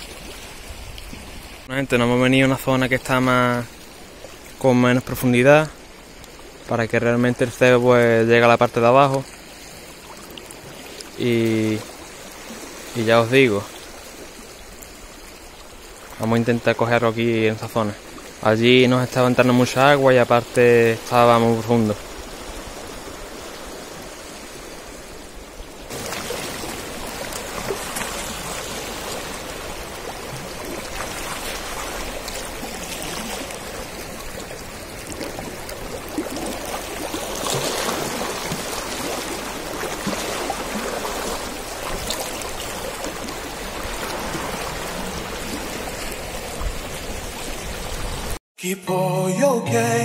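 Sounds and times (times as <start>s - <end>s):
seawater washing around rocks: 0.0s - 48.4s.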